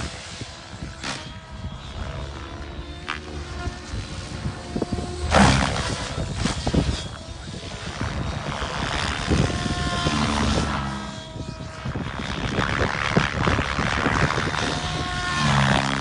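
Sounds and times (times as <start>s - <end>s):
helicopter rotor blades whooshing: 0.0s - 16.0s.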